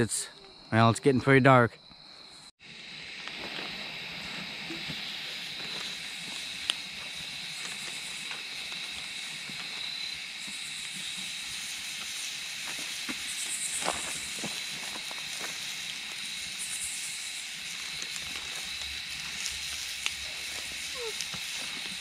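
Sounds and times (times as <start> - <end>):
campfire crackling and hissing: 1.9 - 22.0.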